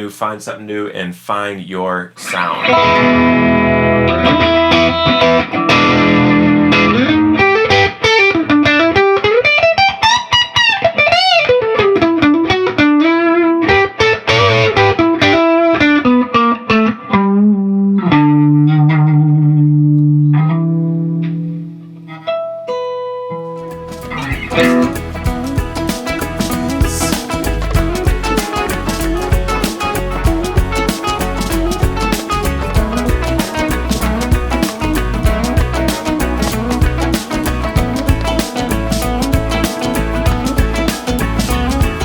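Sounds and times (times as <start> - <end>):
electric guitar lead with bends: 2.2 - 42.0.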